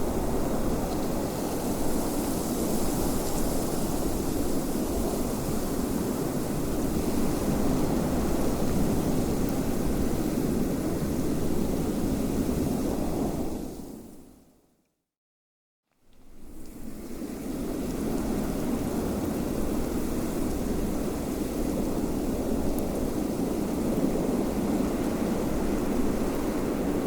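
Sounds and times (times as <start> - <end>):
rushing wind: 0.0 - 14.1, 16.5 - 27.0.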